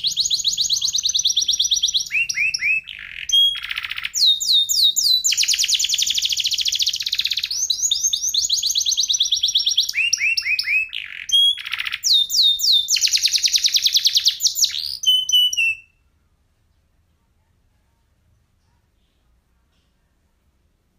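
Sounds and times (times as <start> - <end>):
canary singing trills: 0.0 - 17.1.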